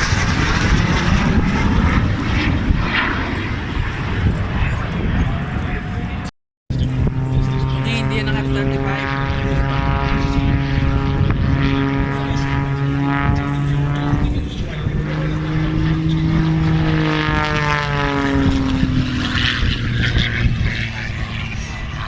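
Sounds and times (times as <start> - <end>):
propeller airplanes flying past: 0.0 - 22.0.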